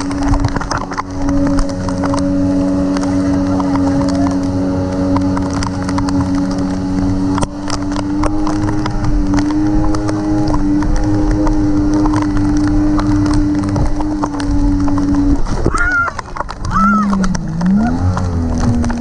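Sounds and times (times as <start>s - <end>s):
boat engine running: 0.0s - 19.0s
crackle of sharp ticks: 0.0s - 19.0s.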